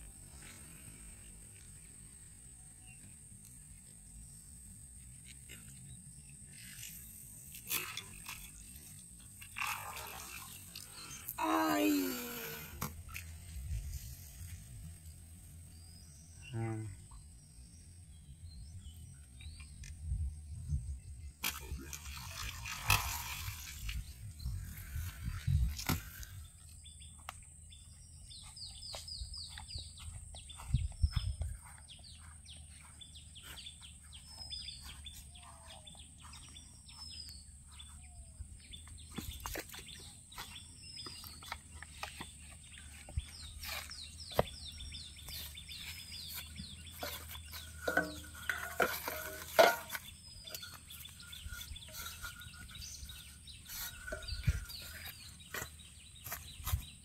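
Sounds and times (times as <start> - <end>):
small birds chirping: 0.1 - 57.0.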